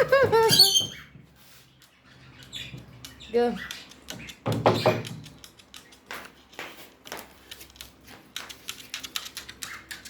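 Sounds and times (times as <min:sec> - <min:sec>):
parrot claws and beak tapping: 0:01.8 - 0:10.0.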